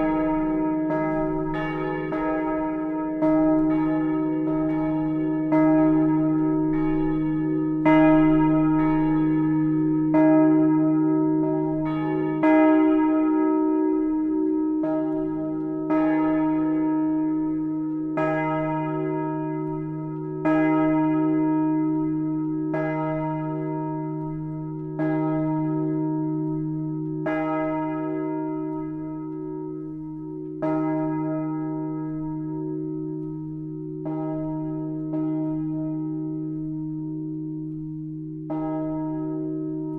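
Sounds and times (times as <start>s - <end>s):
swinging church bells ringing: 0.0s - 39.9s.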